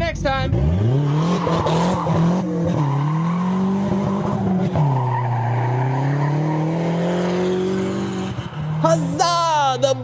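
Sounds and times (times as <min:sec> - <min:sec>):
turbocharged car engine revving: 0:00.3 - 0:10.0
tires squealing: 0:00.6 - 0:10.0.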